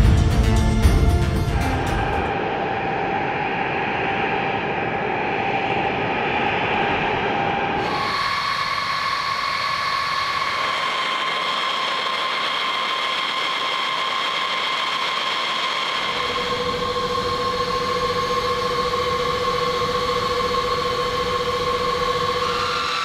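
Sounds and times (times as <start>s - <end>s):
jet turbine whine: 0.0s - 23.0s.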